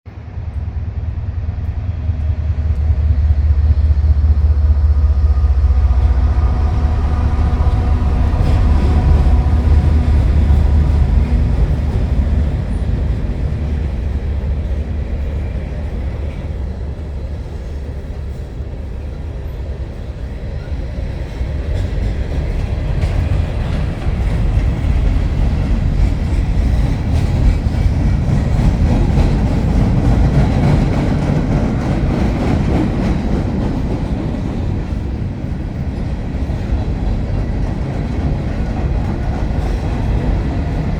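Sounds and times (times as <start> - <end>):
train wheels rumbling on rail: 0.1 - 40.9.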